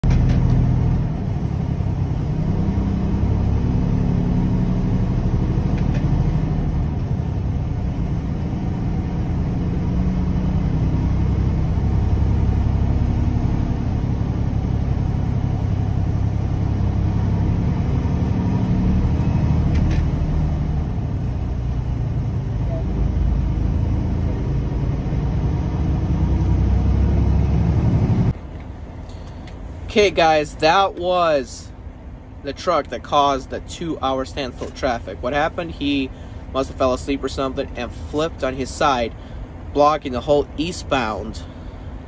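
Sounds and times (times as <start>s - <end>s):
diesel truck engine and road noise: 0.0s - 42.0s.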